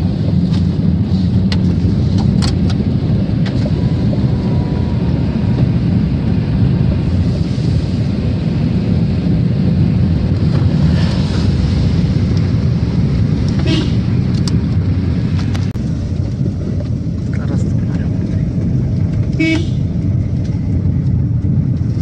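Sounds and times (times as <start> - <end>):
car interior driving rumble: 0.0 - 22.0.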